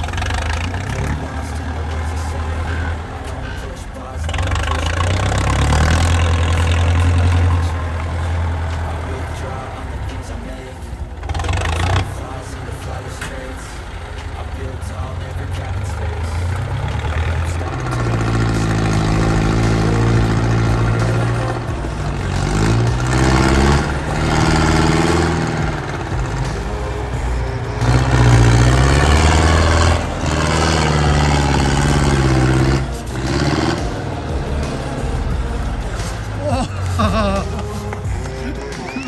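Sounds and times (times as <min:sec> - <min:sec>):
truck engine revving under load: 0:00.0 - 0:39.0.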